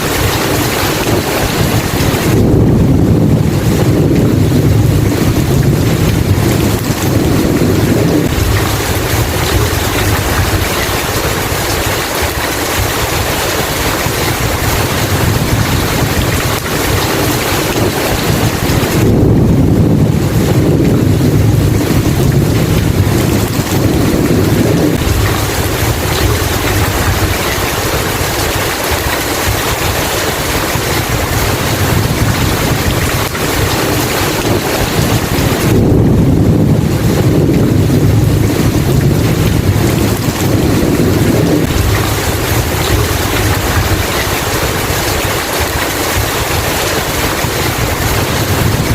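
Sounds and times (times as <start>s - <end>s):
rain falling: 0.0s - 48.9s
thunder rumbling: 0.0s - 48.9s.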